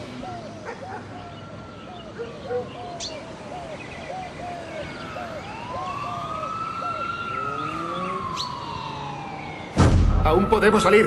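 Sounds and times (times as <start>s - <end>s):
police siren: 0.0s - 11.0s.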